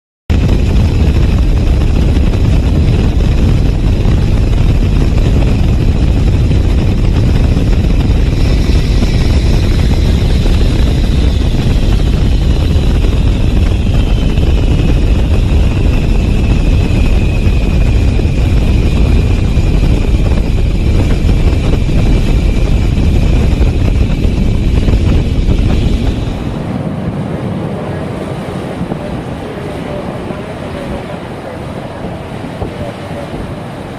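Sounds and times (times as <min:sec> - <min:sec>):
high engine whine: 0:00.3 - 0:33.9
jet engine rumble and airflow: 0:00.3 - 0:33.9.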